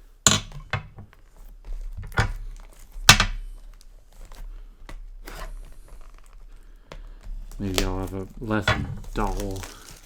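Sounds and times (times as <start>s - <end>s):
plastic wrap ripping: 1.1s - 10.0s.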